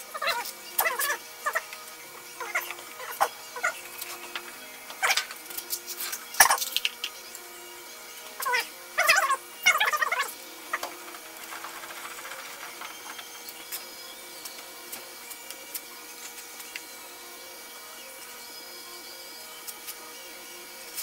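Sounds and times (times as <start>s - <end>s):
sander motor hum: 0.0s - 21.0s.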